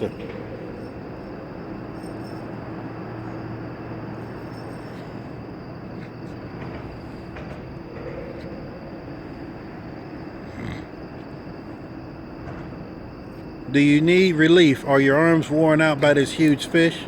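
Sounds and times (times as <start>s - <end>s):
constant low hum: 0.0s - 17.0s
low mechanical rumble: 0.0s - 17.0s.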